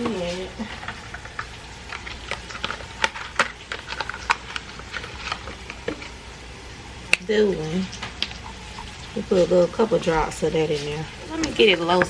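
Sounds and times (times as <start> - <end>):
oil crackling and popping: 0.0 - 12.0
potatoes sizzling in oil: 0.0 - 12.0.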